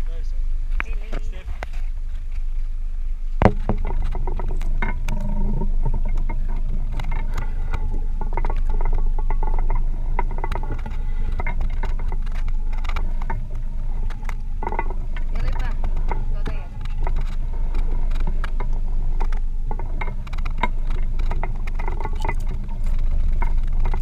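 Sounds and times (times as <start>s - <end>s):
wind and water rumble: 0.0s - 24.0s.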